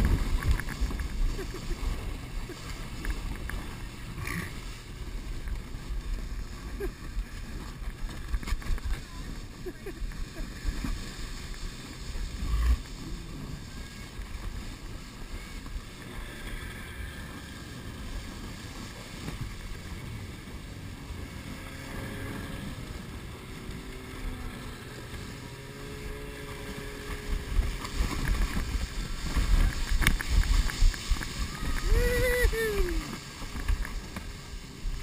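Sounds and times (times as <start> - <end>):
canoe sliding over snow: 0.0 - 35.0
snowmobile engine humming: 0.0 - 35.0.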